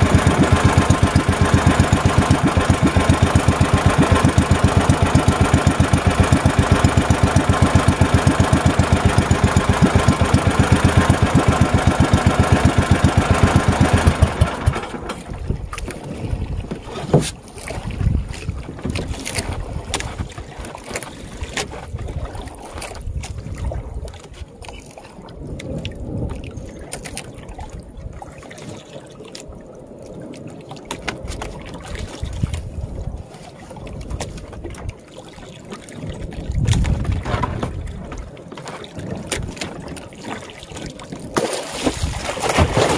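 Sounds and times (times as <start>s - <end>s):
small boat engine running: 0.0s - 27.2s, 30.9s - 42.9s
water sounds: 0.0s - 42.9s.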